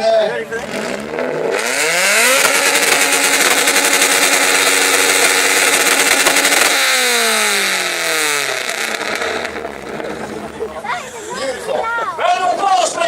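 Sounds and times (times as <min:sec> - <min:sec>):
car engine revving loud exhaust: 0:00.4 - 0:11.1.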